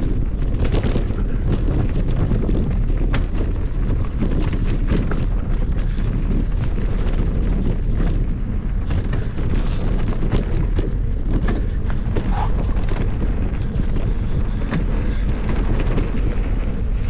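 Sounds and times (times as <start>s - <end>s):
bike chain and frame rattling: 0.0s - 17.0s
bike tyres rumbling on dirt: 0.0s - 17.0s
wind buffeting microphone: 0.0s - 17.0s.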